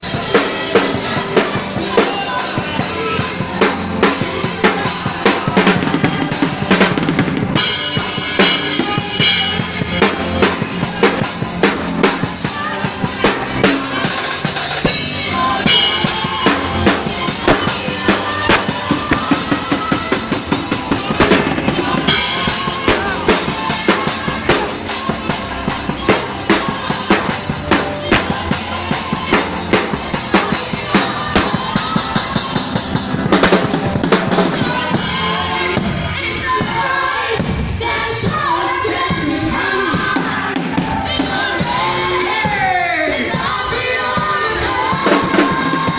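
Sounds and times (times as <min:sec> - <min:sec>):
band music: 0:00.0 - 0:45.9
drum kit playing a loud beat: 0:00.0 - 0:45.9.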